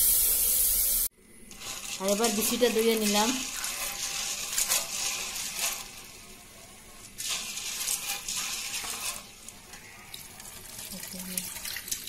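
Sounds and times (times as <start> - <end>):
beans swished in water in steel bowl: 1.5 - 12.0.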